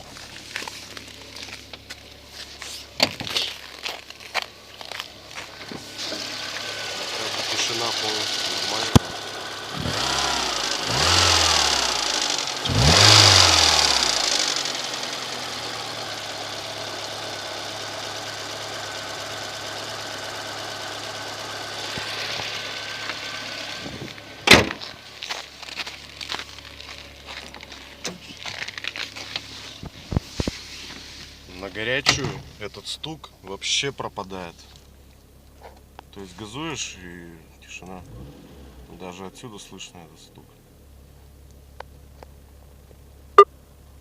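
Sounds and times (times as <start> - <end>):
car engine revving and idling: 0.0 - 44.0.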